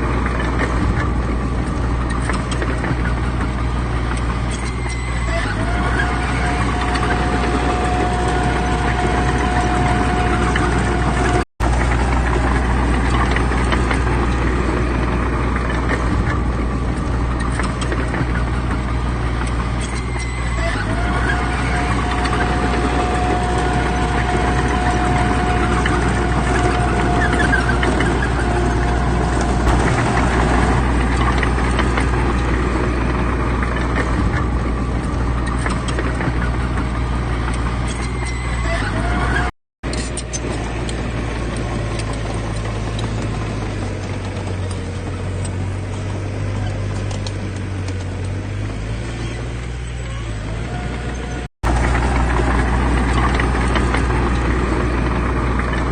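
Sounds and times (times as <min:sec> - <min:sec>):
high machine whine: 0:00.0 - 0:46.1
heavy diesel engines running: 0:00.0 - 0:55.9.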